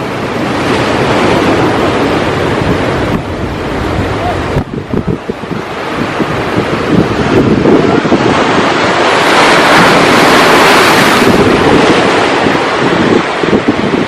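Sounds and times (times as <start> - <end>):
sea wave rushing in: 0.0 - 14.0
wind buffeting microphone: 0.0 - 14.0.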